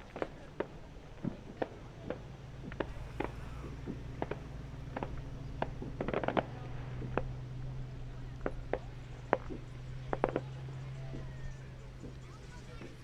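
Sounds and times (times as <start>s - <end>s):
distant fireworks popping: 0.0s - 13.0s
steady low hum: 1.9s - 12.4s.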